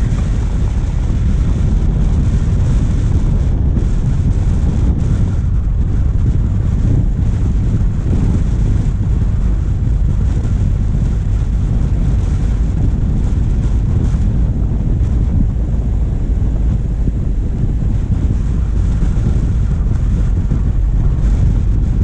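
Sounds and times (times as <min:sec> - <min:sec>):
diesel engine rumbling: 0:00.0 - 0:22.0
wind buffeting a microphone: 0:00.0 - 0:22.0.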